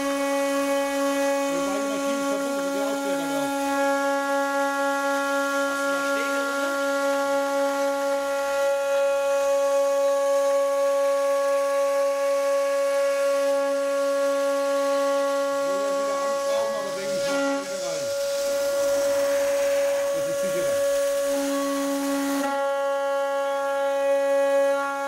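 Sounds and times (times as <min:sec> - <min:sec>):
milling spindle cutting metal: 0:00.0 - 0:25.0.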